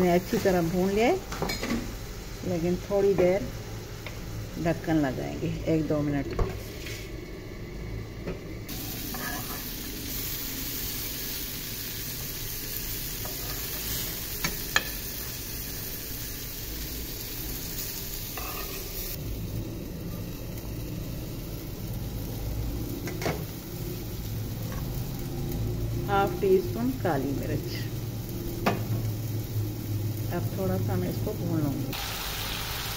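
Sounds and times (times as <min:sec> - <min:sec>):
vegetables sizzling in oil: 0:00.0 - 0:32.9.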